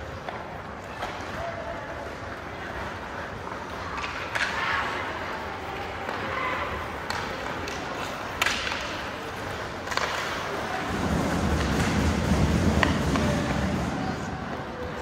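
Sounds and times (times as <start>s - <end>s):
hockey sticks and puck clacking: 0.0s - 15.0s
hollow rink noise: 0.0s - 15.0s.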